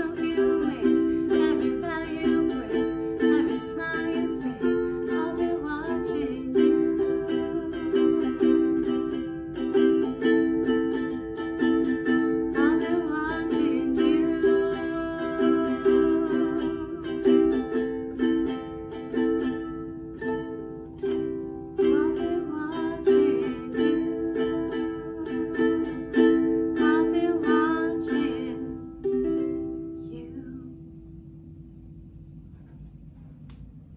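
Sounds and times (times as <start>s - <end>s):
ukulele strumming chords: 0.0s - 31.7s.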